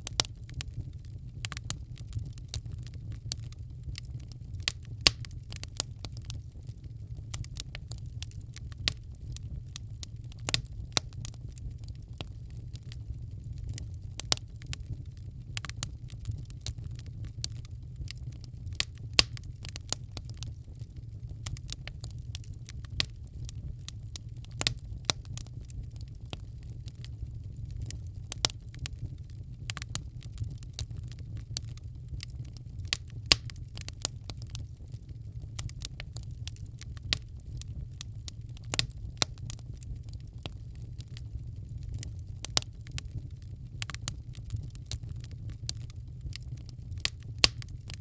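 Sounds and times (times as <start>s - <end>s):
low rumble of flames: 0.0s - 48.0s
wood fire crackling and popping: 0.0s - 48.0s.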